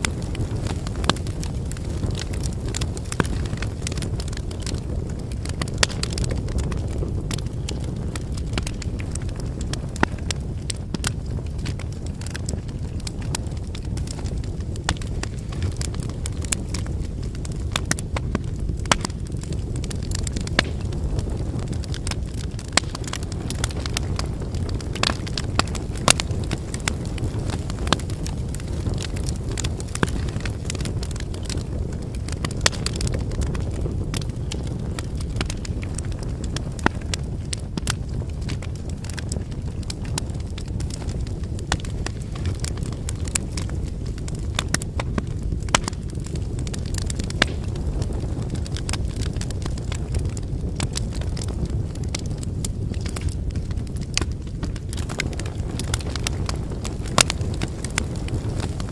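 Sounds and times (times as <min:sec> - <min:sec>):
low rush of flame: 0:00.0 - 0:58.9
wood crackling and popping: 0:00.0 - 0:58.9.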